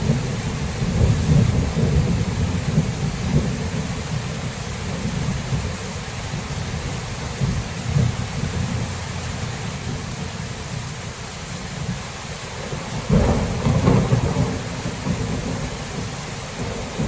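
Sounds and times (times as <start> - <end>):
rolling thunder: 0.0 - 10.1, 12.6 - 17.0
steady rain: 0.0 - 17.0.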